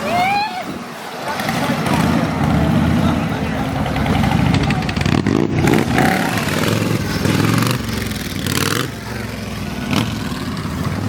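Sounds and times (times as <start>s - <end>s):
motorcycle engine revving: 1.2s - 11.0s.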